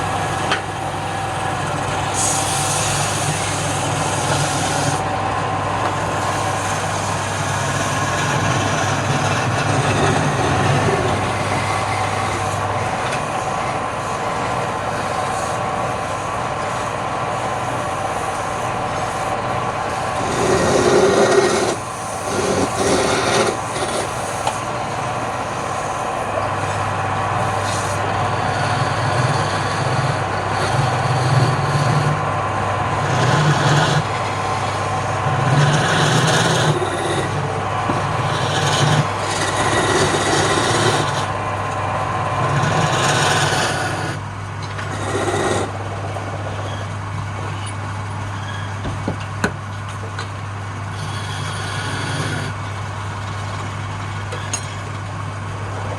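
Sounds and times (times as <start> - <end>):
wood lathe motor hum: 0.0 - 48.6, 49.4 - 54.4
tool scraping spinning wood: 0.0 - 55.0.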